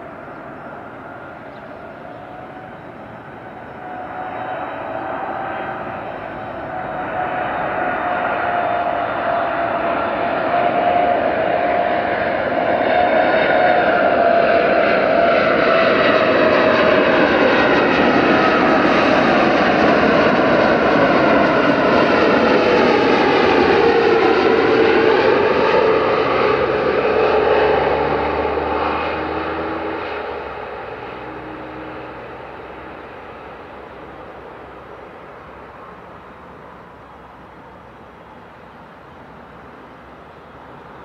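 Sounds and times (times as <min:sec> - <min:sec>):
jet aircraft passing: 0:00.0 - 0:41.0.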